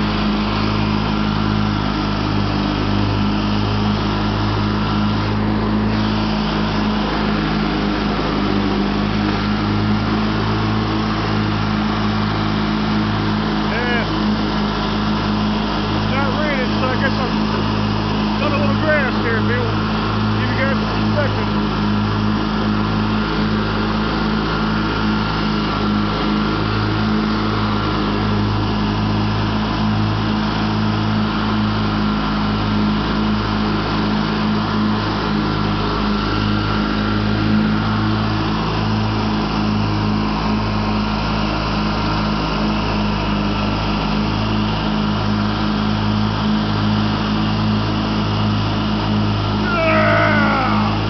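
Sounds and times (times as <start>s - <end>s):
lawn tractor engine running: 0.0s - 51.0s.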